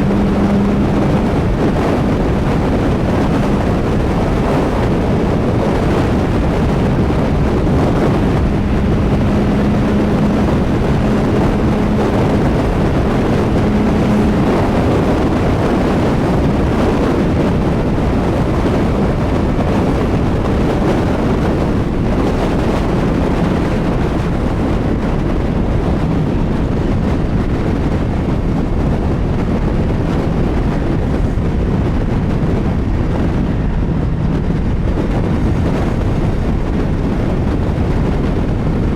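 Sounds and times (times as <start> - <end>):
heavy wind rush: 0.0 - 38.9
motorcycle engine running steadily: 0.0 - 38.9.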